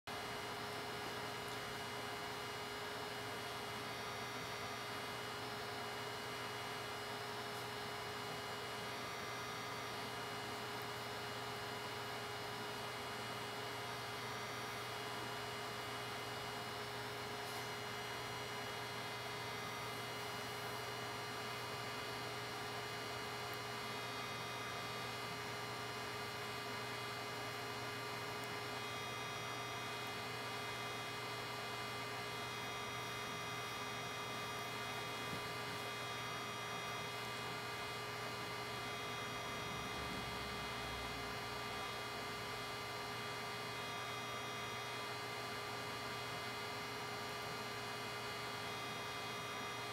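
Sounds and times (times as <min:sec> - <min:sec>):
electrical hum: 0:00.1 - 0:49.9
faint high whine: 0:00.2 - 0:49.9.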